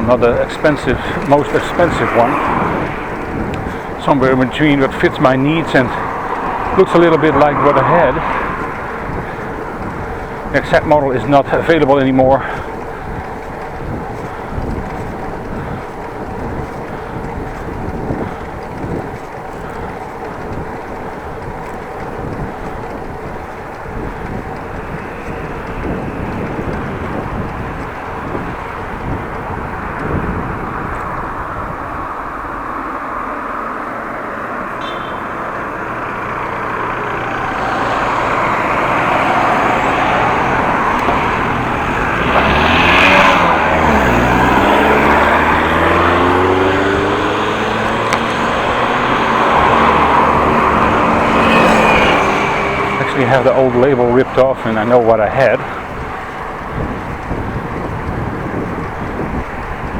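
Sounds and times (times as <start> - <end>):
vehicle rushing past: 0.0 - 14.0, 22.7 - 59.9
road traffic: 0.0 - 59.9
wind rumbling on microphone: 0.0 - 59.9.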